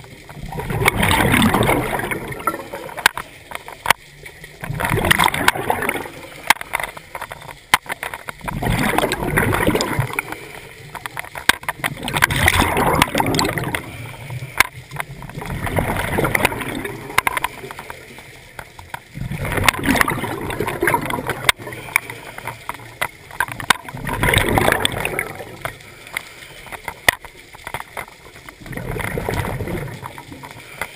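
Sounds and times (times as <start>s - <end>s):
underwater regulator bubbles: 0.0s - 30.9s.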